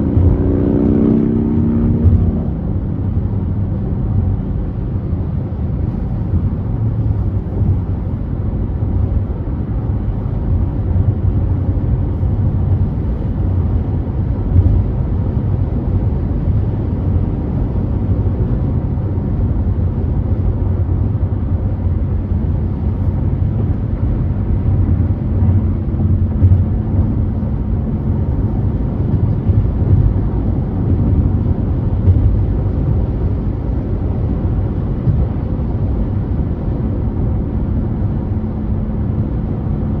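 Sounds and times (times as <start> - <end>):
car driving on freeway: 0.0 - 40.0.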